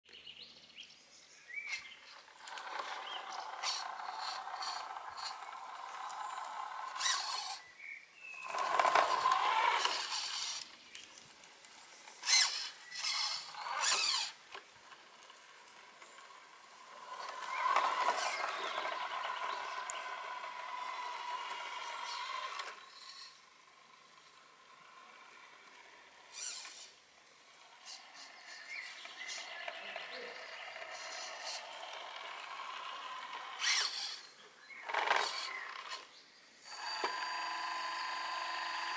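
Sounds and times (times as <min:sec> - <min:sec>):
toy truck motor whine: 0:01.7 - 0:07.6, 0:08.4 - 0:11.1, 0:12.0 - 0:38.9.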